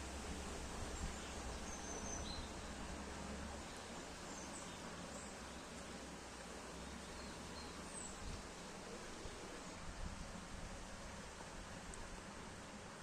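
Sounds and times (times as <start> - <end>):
steady forest hiss: 0.0 - 13.0.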